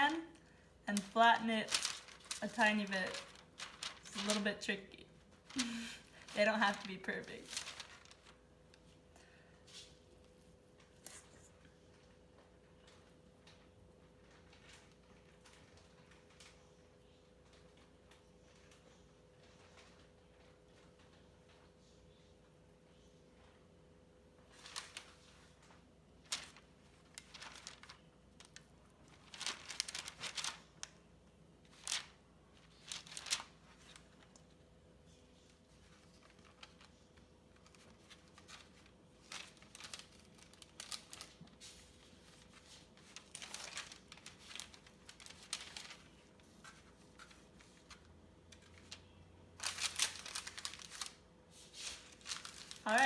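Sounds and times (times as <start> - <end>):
parchment paper crinkling: 0.0 - 21.6, 24.5 - 53.0.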